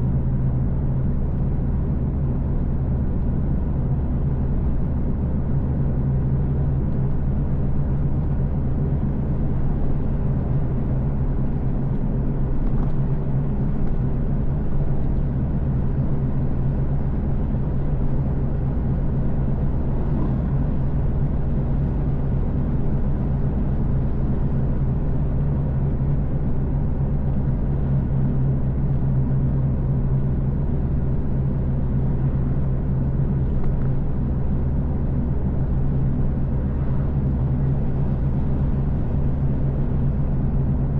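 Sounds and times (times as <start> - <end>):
car engine drone: 0.0 - 40.9
road rumble: 0.0 - 40.9.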